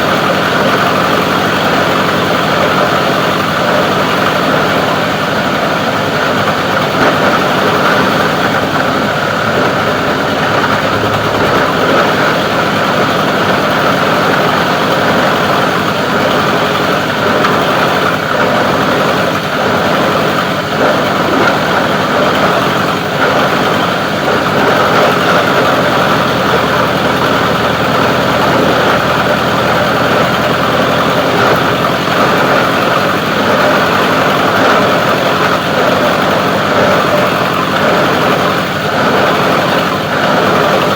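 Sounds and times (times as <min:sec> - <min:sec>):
grinding machine running: 0:00.0 - 0:40.9.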